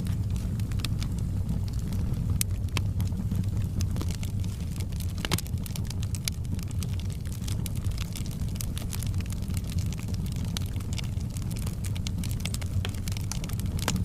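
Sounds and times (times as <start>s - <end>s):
rumble of bonfire flames: 0.0s - 14.0s
wood crackling and popping: 0.0s - 14.0s.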